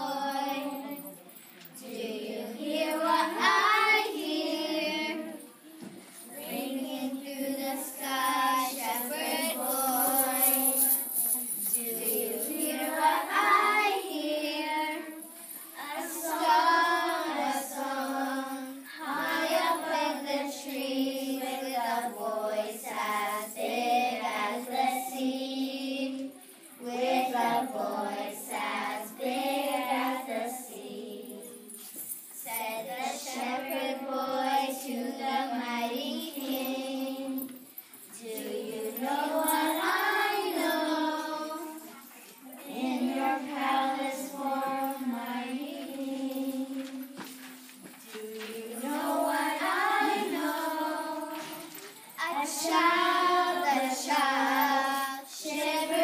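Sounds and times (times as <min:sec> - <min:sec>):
children singing together: 0:00.0 - 0:01.0, 0:01.8 - 0:31.7, 0:32.4 - 0:37.5, 0:38.2 - 0:41.9, 0:42.5 - 0:47.2, 0:48.2 - 0:56.0.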